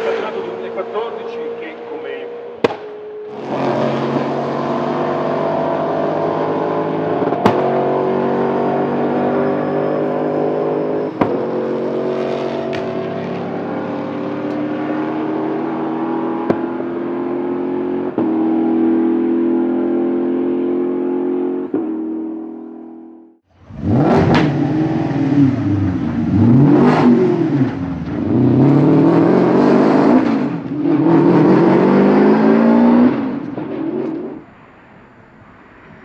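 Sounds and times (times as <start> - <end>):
race car engines accelerating: 0.0 - 34.5.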